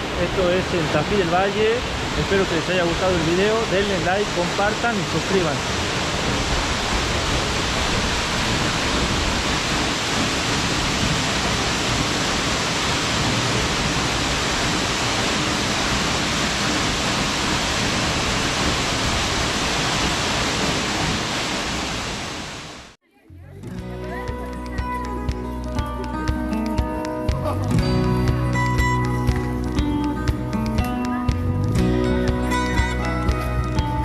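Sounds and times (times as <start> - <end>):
waterfall rushing: 0.0 - 23.0, 23.8 - 34.0.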